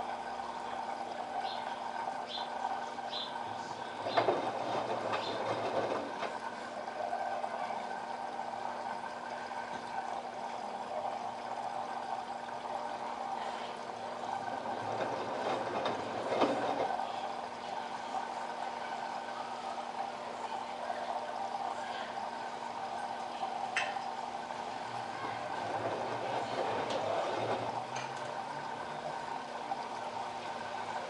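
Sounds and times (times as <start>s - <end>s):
washing machine motor hum: 0.0s - 31.0s
water swishing in drum: 0.0s - 31.0s.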